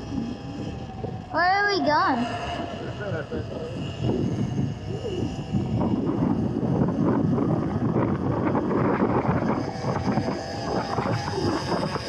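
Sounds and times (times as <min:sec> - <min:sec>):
electric motor whine: 0:00.0 - 0:12.0
wind buffeting microphone: 0:00.0 - 0:12.0.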